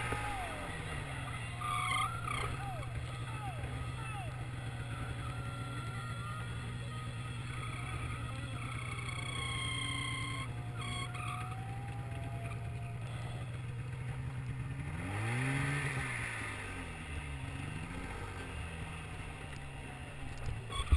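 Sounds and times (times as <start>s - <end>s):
snowmobile engine revving: 0.0s - 20.9s.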